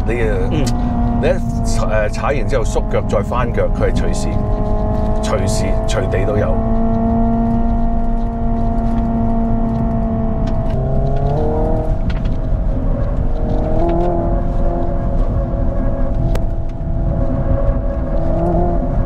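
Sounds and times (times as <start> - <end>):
low road rumble: 0.0 - 19.0
simulated engine drone: 0.0 - 19.0.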